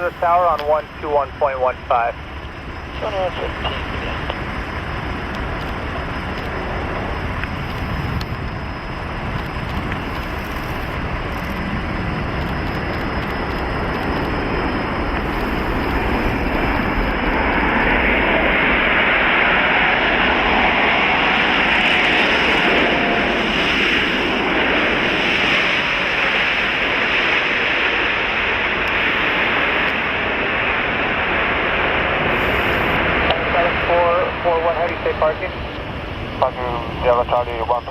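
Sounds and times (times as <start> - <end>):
jet engine roar: 0.0 - 37.9.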